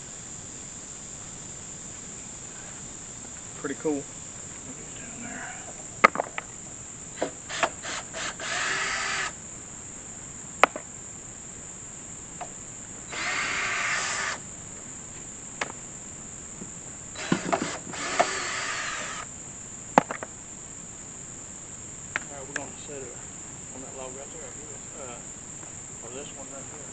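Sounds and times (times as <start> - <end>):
crickets chirring: 0.0 - 26.9
noisy bursts: 0.0 - 26.9.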